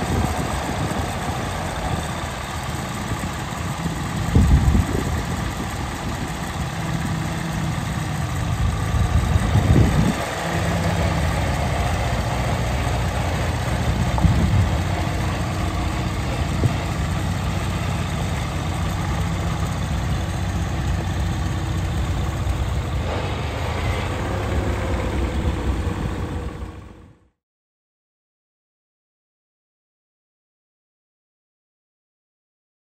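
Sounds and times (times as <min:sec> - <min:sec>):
tractor engine running: 0:00.0 - 0:27.3.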